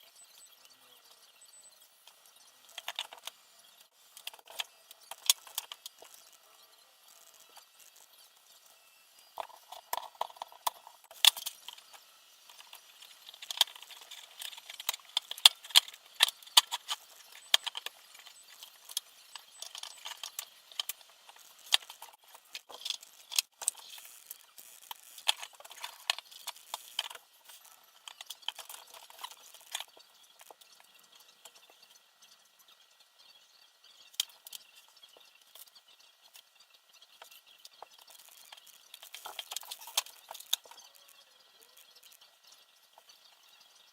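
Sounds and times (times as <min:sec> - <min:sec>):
small parts and tools clinking: 0:02.1 - 0:31.9, 0:34.0 - 0:43.5.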